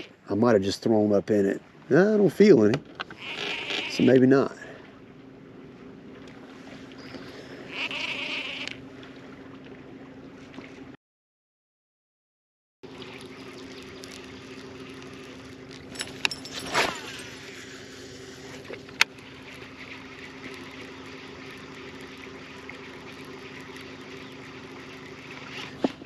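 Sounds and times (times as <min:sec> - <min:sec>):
electric boat motor humming: 0:00.0 - 0:00.4, 0:02.4 - 0:11.0, 0:12.8 - 0:26.0.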